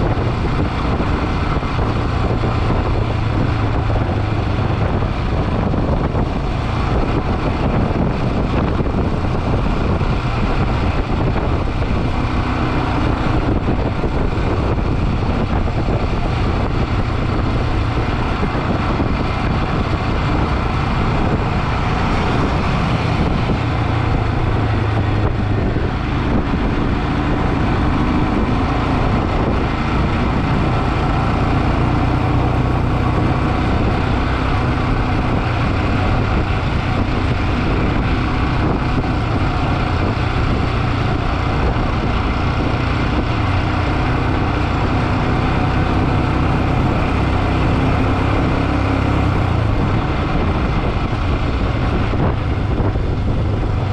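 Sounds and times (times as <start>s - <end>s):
motorcycle engine hum: 0.0s - 53.9s
road and wind noise: 0.0s - 53.9s.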